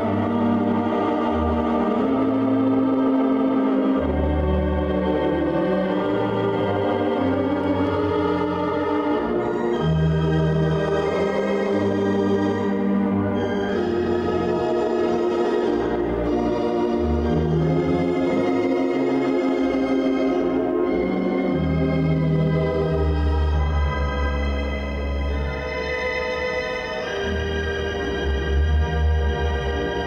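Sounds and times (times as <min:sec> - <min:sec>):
theatre organ dance music: 0:00.0 - 0:30.0.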